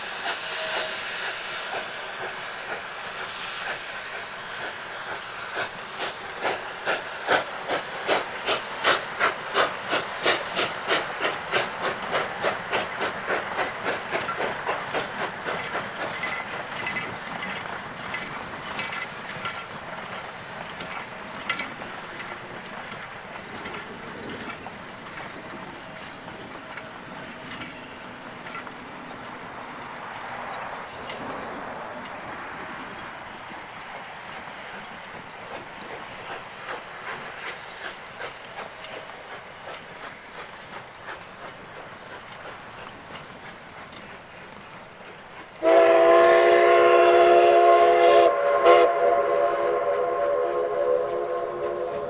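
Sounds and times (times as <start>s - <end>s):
steam hissing: 0.0s - 52.0s
steam locomotive chuffing: 0.0s - 52.0s.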